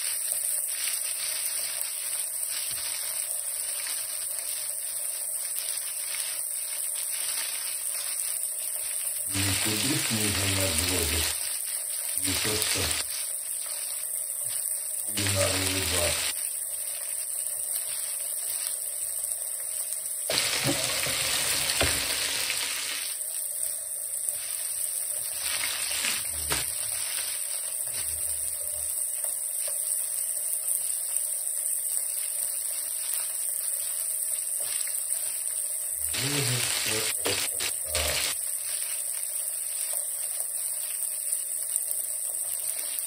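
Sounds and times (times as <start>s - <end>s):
fish sizzling in hot oil: 0.0s - 43.0s.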